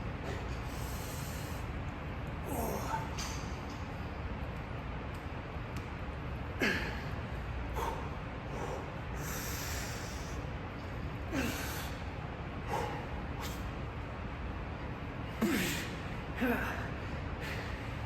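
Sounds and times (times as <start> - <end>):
gym background noise: 0.0 - 18.0.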